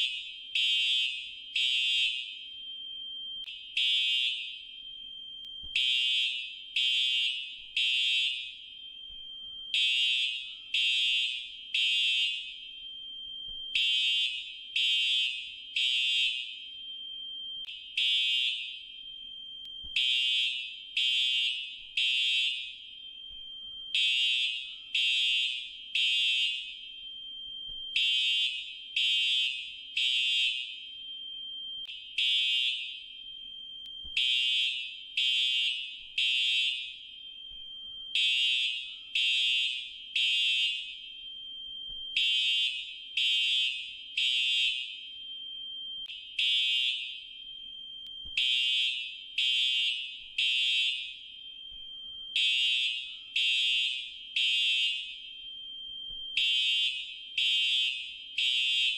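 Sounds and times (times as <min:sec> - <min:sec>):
fire alarm beeping: 0:00.0 - 0:58.9.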